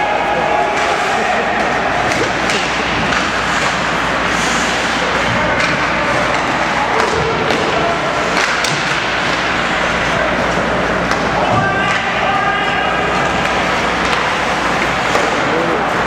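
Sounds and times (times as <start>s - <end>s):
hockey sticks and puck hitting boards: 0.1s - 16.0s.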